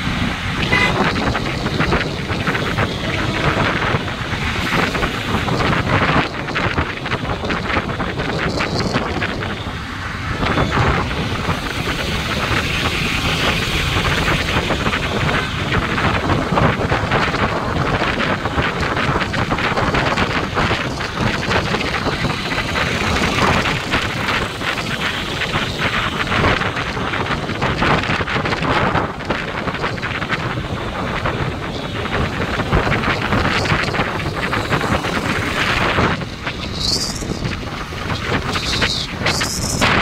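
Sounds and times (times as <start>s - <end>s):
motorcycle running: 0.0s - 40.0s
road noise: 0.0s - 40.0s
wind rushing over microphone: 0.0s - 40.0s.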